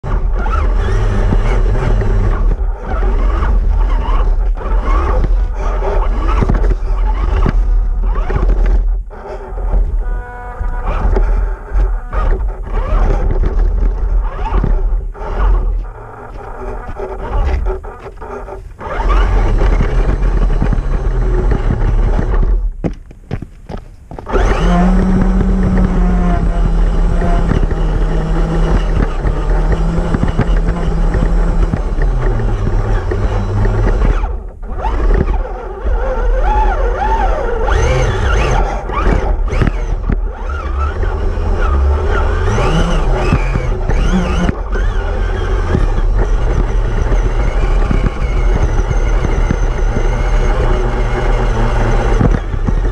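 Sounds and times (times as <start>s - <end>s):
rc car motor whining: 0.0s - 22.7s, 24.1s - 52.9s
chassis rumble and rattle: 0.0s - 52.9s.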